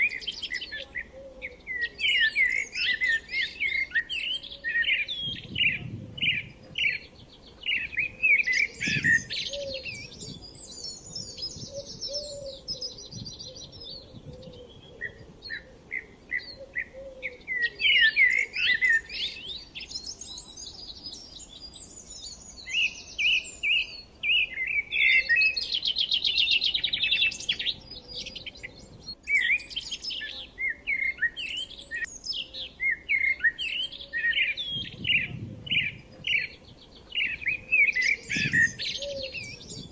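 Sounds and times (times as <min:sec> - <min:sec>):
forest birds chirping and trilling: 0:00.0 - 0:39.9.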